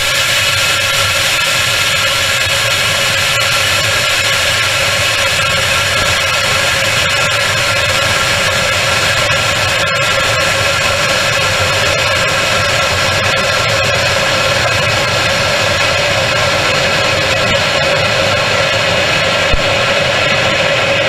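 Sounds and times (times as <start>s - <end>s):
air rushing past rocket: 0.0s - 21.0s.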